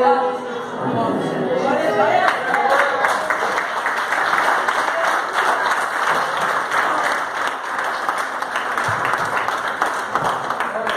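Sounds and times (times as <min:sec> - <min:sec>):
crowd applauding: 0:02.1 - 0:10.9.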